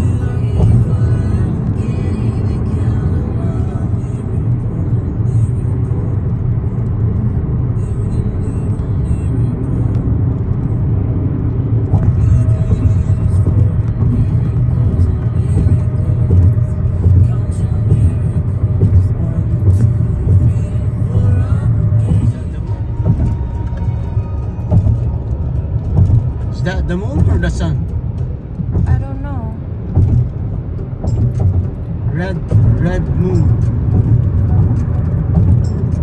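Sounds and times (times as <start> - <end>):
background music: 0.0 - 36.0
road and engine rumble in car: 0.0 - 36.0.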